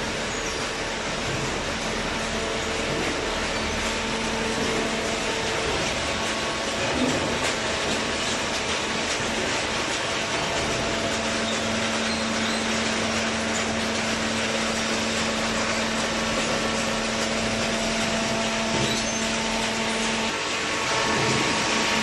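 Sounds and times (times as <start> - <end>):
constant mechanical hum: 0.0 - 22.0
hydraulic baler running: 0.0 - 22.0.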